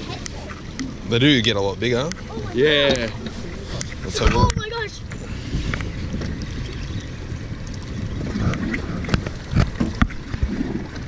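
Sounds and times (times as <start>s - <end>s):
water around boat: 0.0s - 11.0s
wind: 0.0s - 11.0s.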